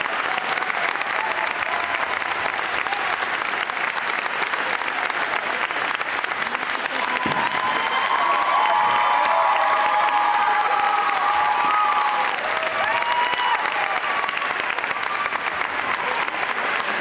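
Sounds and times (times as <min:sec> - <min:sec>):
audience clapping: 0:00.0 - 0:17.0.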